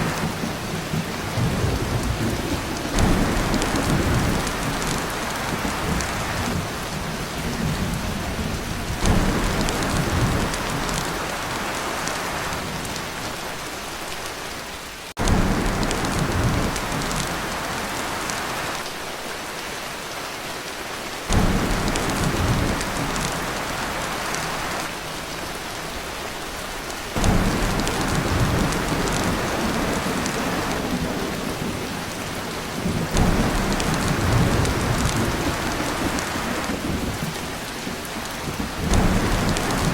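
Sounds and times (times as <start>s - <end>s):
low thunder rumbles: 0.0s - 13.2s, 15.2s - 18.8s, 21.3s - 25.7s, 27.1s - 39.9s
heavy rain on a tin roof: 0.0s - 39.9s.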